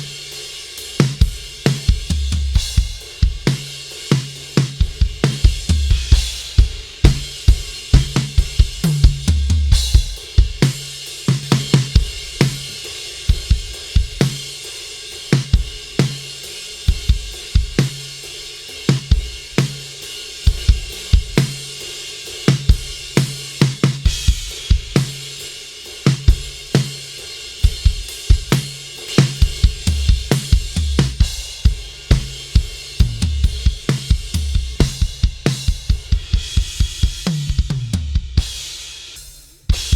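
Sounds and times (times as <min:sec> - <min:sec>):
drum kit playing a beat: 0:00.0 - 0:39.9.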